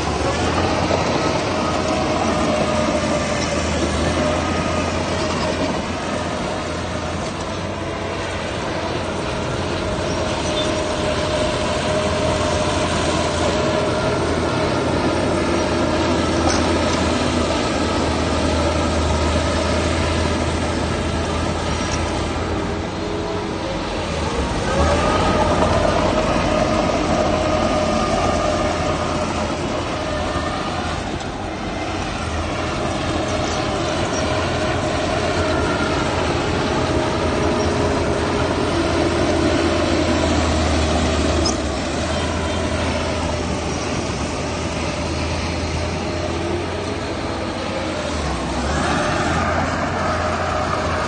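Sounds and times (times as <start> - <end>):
diesel engine rumbling under load: 0.0 - 51.0.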